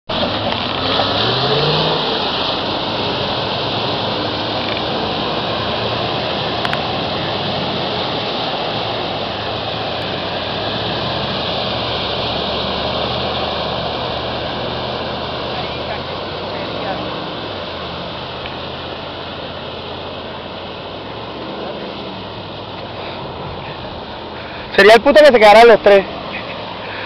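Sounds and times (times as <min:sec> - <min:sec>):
engine revving: 0:00.1 - 0:23.5
rushing water: 0:00.1 - 0:27.0.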